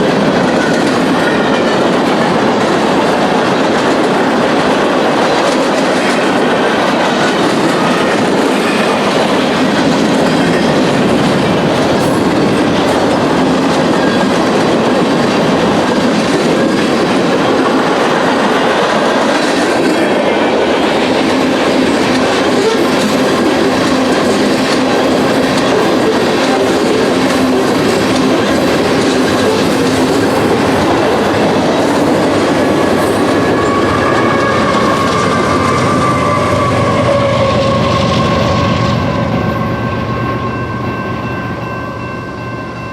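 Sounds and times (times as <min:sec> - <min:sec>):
freight train wheels rumbling: 0:00.0 - 0:42.9
rail joints clickety-clack: 0:00.0 - 0:42.9.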